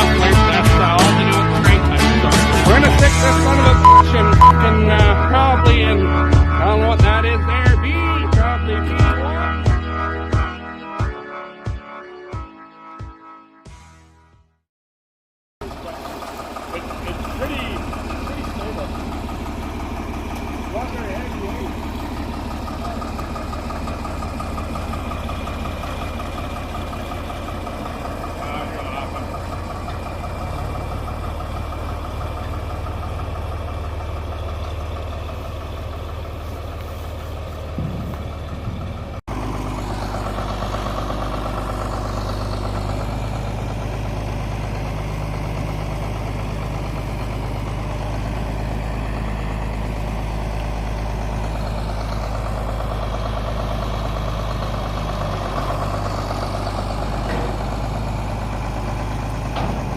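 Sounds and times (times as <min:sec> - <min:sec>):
vehicle engine humming: 0:00.0 - 0:10.6, 0:15.6 - 0:59.9.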